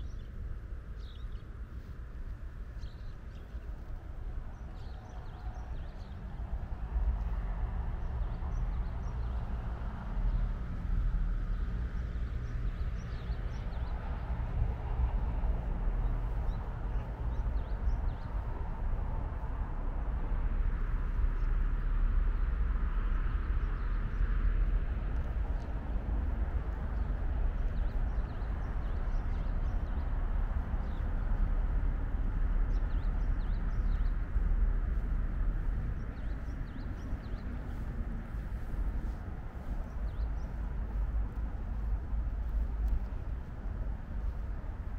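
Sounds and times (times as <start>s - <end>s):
small birds chirping: 0.0s - 19.4s, 20.8s - 44.9s
distant city traffic rumble: 0.0s - 44.9s.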